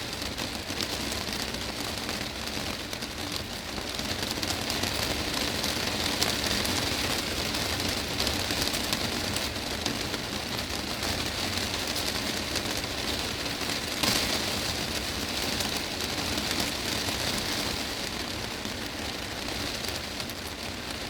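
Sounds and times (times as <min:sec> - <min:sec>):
heavy rain on a glass roof: 0:00.0 - 0:21.0.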